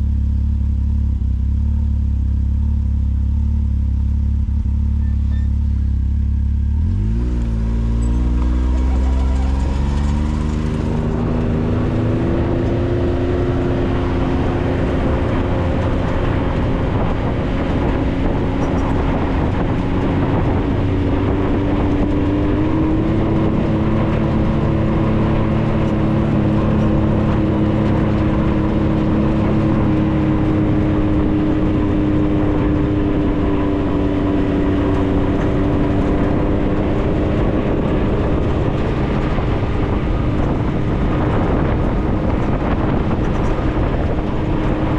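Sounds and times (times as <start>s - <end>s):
off-road vehicle engine running: 0.0s - 44.9s
tyre and wind noise: 4.4s - 44.9s.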